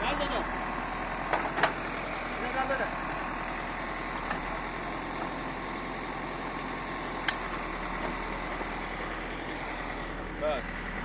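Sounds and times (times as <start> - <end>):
heavy machine engine idling: 0.0 - 11.0.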